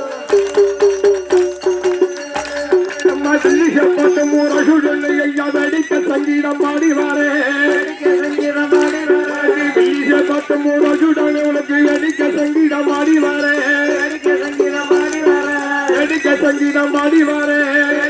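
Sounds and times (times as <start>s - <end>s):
folk dance melody: 0.0s - 18.0s
jingling bells: 0.0s - 18.0s
percussion strokes: 0.0s - 18.0s.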